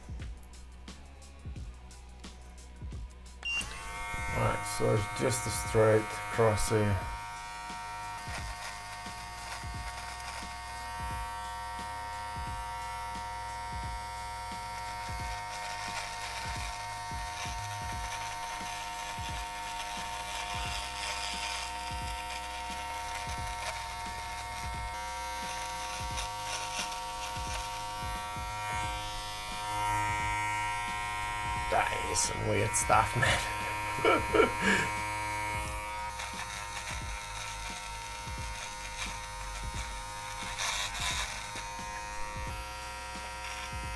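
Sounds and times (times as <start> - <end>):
blade crackling on hair: 2.2 - 43.9
beard trimmer humming: 3.0 - 43.9.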